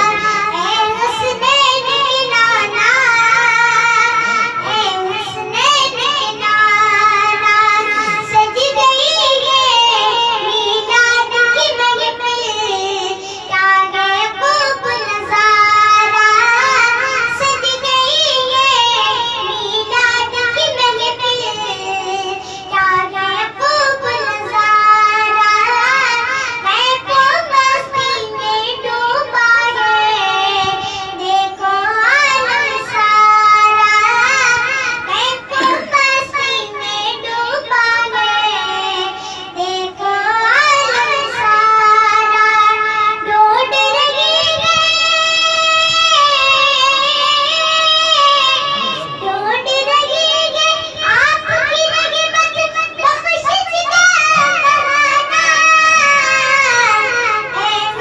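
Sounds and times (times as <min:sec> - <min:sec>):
boy singing into a microphone: 0:00.0 - 0:58.0.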